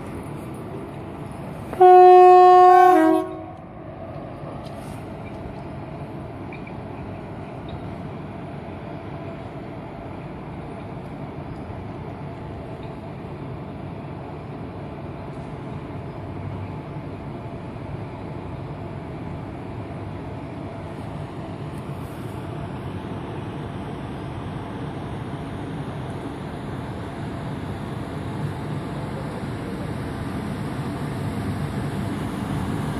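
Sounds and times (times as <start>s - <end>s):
train rumbling on track: 0.0s - 32.9s.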